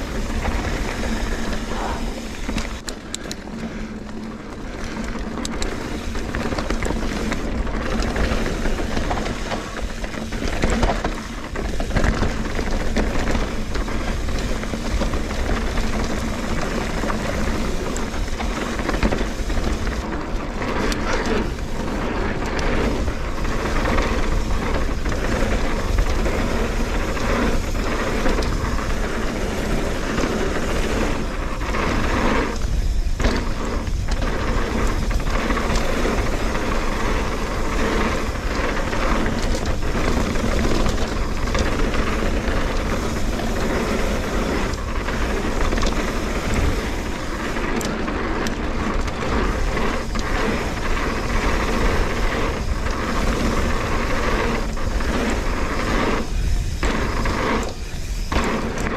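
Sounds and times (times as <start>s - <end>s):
bike knocks and rattles: 0.0s - 58.9s
bike tyre noise on dirt: 0.0s - 58.9s
wind buffeting microphone: 0.0s - 58.9s.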